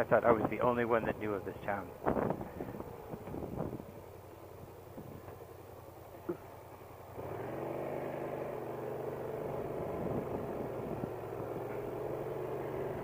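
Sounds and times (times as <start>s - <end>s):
motorcycle engine starting and idling: 1.1s - 13.0s.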